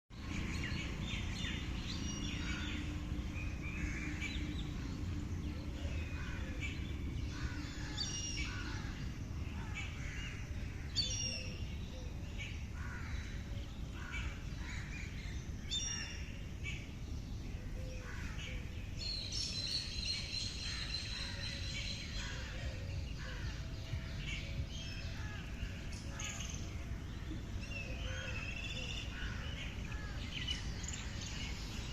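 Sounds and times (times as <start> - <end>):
birds chirping and calling: 0.2 - 31.9
low background rumble: 0.2 - 31.9.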